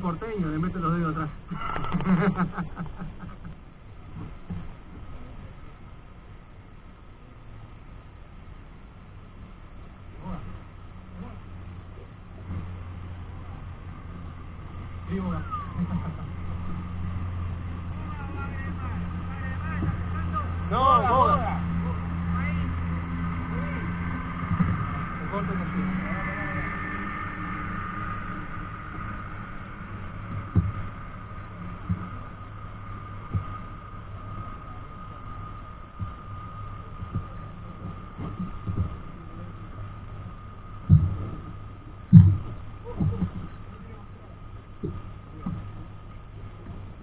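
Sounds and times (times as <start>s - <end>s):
boat motor humming: 0.0s - 47.0s.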